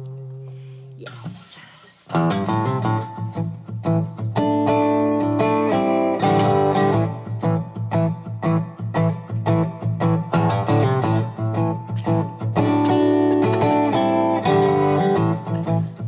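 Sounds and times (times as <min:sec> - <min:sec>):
acoustic guitar strumming: 0:01.8 - 0:16.0.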